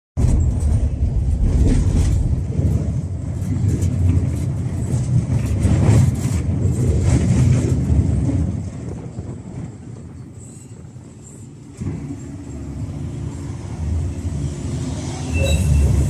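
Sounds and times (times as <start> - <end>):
tram rumbling on track: 0.2 - 16.0.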